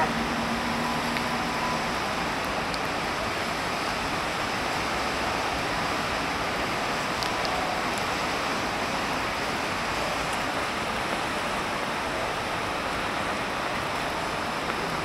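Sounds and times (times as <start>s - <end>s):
rain falling on pavement: 0.0s - 15.0s.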